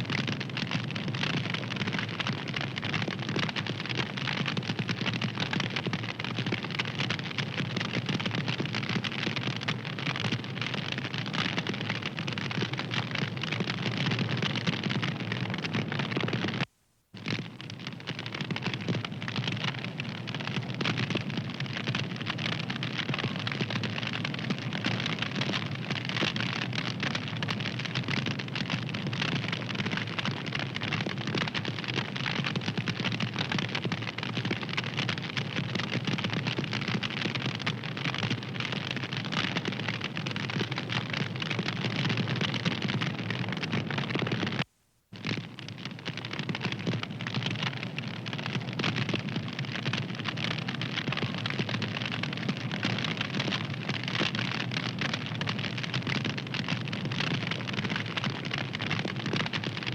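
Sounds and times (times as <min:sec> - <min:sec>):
fire crackling and hissing: 0:00.0 - 0:59.9.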